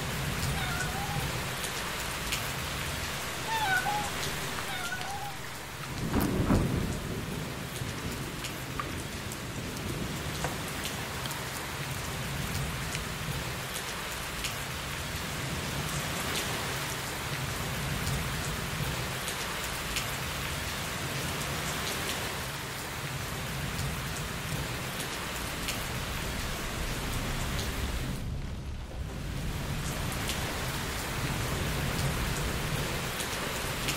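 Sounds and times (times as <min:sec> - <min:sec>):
water rushing and splashing: 0:00.0 - 0:33.9.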